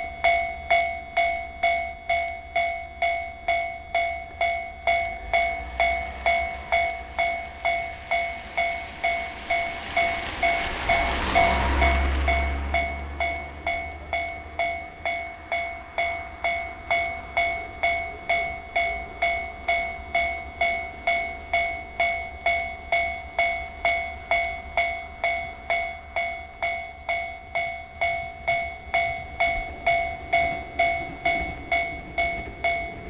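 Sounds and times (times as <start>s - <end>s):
level crossing warning bell: 0.0s - 33.0s.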